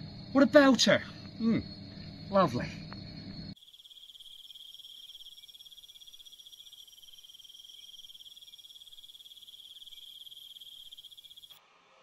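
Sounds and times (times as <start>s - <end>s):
fainter higher insect trill: 0.0s - 11.6s
insects trilling: 0.0s - 11.6s.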